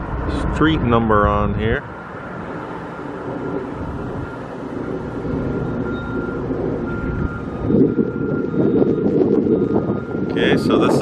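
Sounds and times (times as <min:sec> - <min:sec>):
low engine rumble: 0:00.0 - 0:11.0
wind buffeting microphone: 0:00.0 - 0:11.0
reversing alarm beeping: 0:01.9 - 0:11.0.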